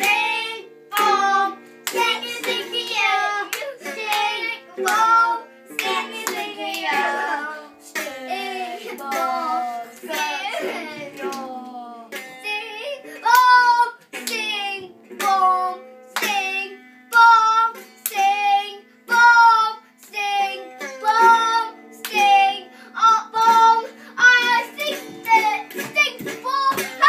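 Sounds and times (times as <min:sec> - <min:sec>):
boy singing: 0:00.0 - 0:27.0
strummed guitar: 0:00.0 - 0:27.0.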